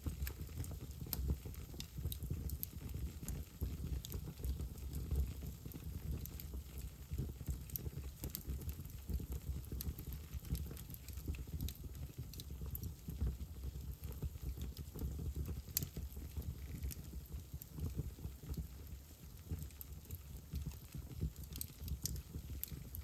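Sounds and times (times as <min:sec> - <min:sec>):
fire crackling and popping: 0:00.0 - 0:23.0
fire rumbling in fireplace: 0:00.0 - 0:23.0.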